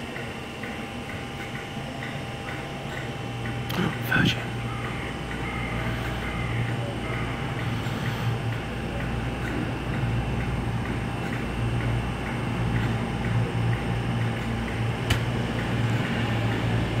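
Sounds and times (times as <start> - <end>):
faint regular ticking: 0.0 - 17.0
standing train humming: 0.0 - 17.0.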